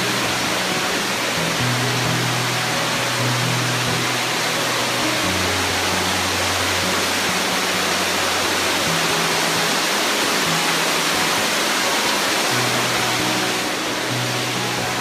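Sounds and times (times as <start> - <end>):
background music notes: 0.0 - 15.0
waterfall rushing: 0.0 - 15.0.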